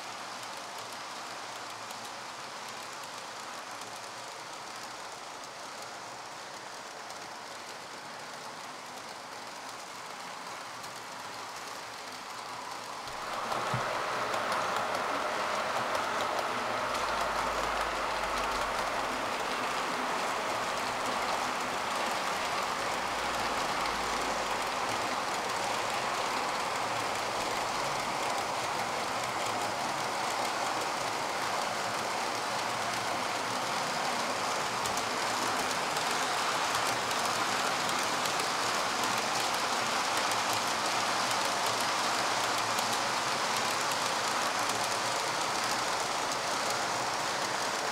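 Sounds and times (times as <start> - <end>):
model train wheels on rail: 0.0 - 47.9.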